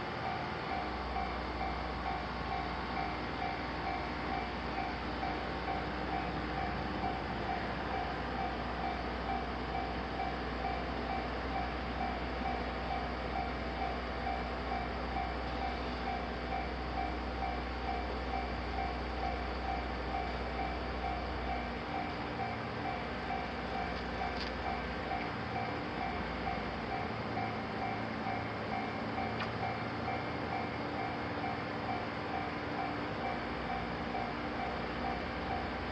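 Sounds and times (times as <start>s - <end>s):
electronic crossing bell ringing: 0.0s - 35.9s.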